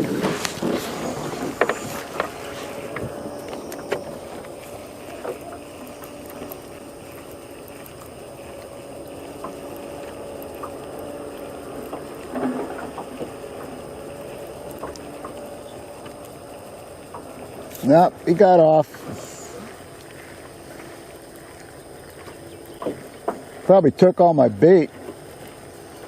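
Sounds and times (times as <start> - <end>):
faint steady hum: 0.0 - 26.0
water sloshing against boat: 0.0 - 26.0.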